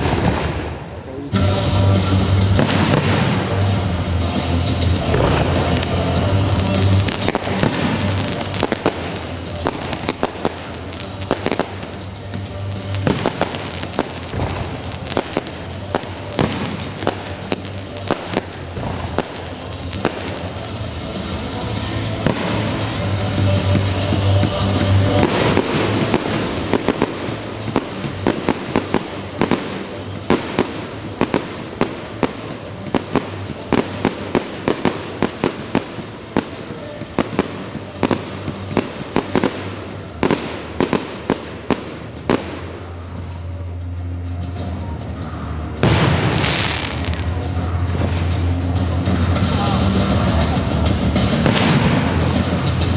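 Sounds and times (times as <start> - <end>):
fireworks bangs: 0.0 - 1.0, 1.6 - 43.4, 45.8 - 50.3, 50.9 - 52.9
epic orchestral music: 1.3 - 42.8, 44.0 - 52.9.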